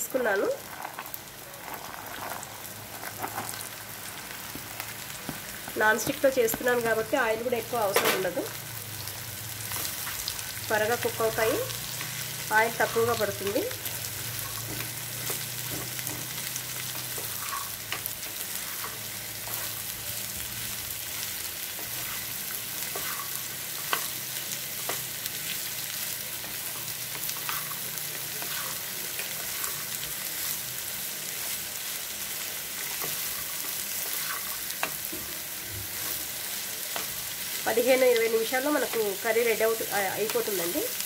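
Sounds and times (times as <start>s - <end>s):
carrots sizzling in oil: 0.0s - 41.0s.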